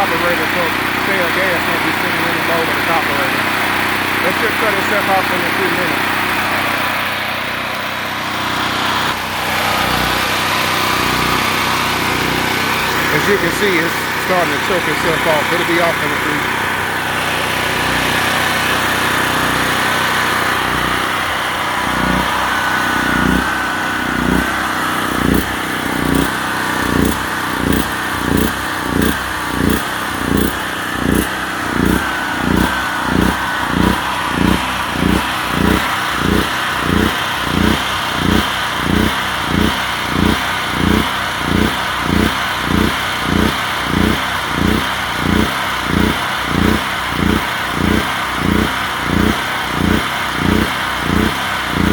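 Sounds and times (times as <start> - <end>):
generator engine surging: 0.0 - 51.9.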